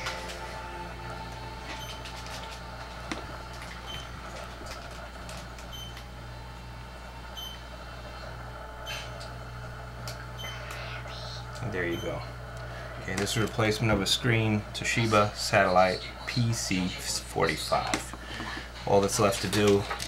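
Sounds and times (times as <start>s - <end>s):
laptop low hum: 0.0s - 20.0s.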